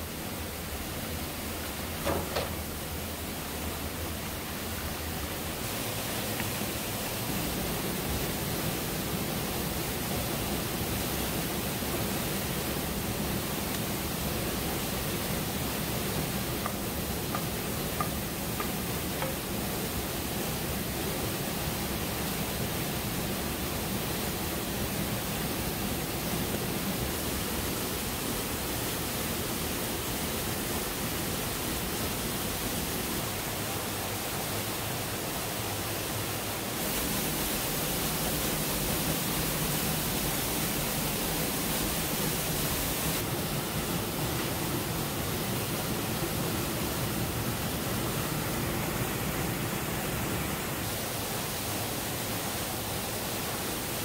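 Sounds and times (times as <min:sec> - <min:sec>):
waterfall roar: 0:00.0 - 0:54.0.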